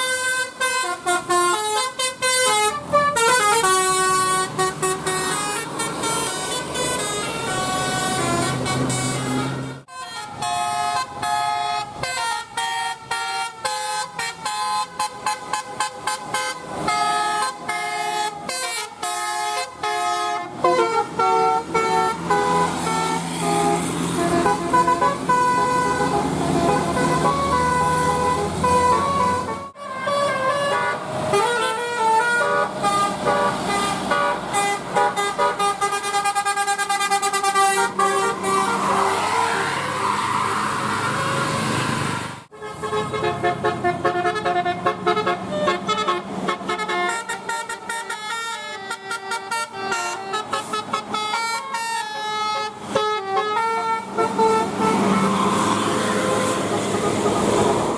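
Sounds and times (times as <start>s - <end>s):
multi-tone bus air horns: 0.0s - 57.9s.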